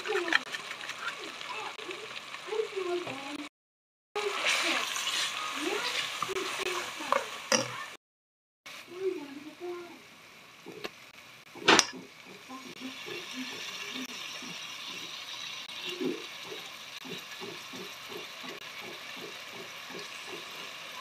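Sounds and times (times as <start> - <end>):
oil sizzling in a pot: 0.0 - 3.5, 4.2 - 8.0, 8.7 - 21.0.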